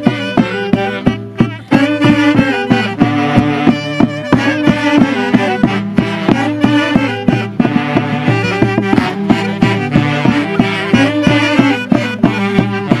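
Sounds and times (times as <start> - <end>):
brass and reed folk band: 0.0 - 13.0
saxophones playing melody: 0.0 - 13.0.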